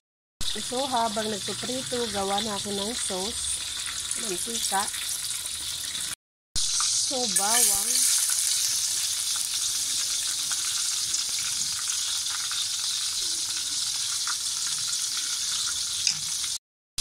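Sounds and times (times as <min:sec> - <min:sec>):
garlic sizzling in oil: 0:00.4 - 0:16.6.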